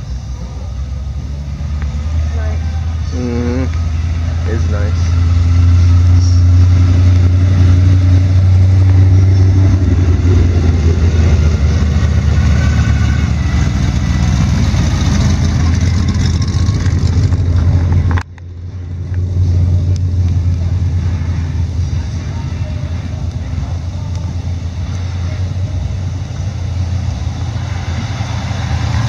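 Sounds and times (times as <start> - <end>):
cars driving past: 0.0 - 29.0.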